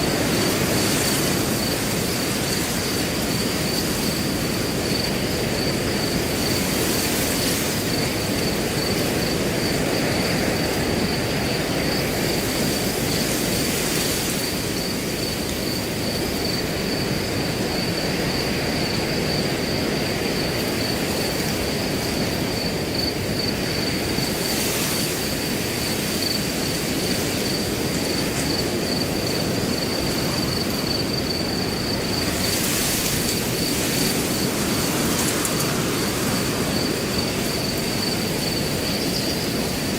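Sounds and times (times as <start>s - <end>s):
cricket chirping: 0.0s - 39.9s
wind blowing through grass: 0.0s - 39.9s.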